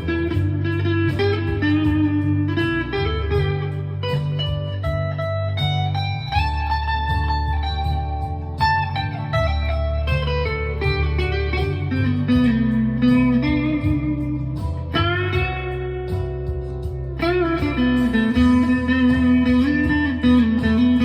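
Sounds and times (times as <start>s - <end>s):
clean electric guitar melody: 0.0s - 21.0s.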